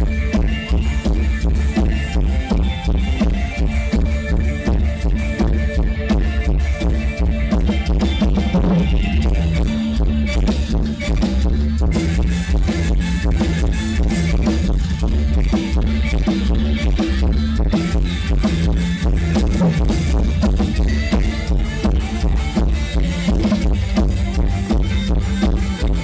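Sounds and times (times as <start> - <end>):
loud music with heavy bass: 0.0 - 26.0.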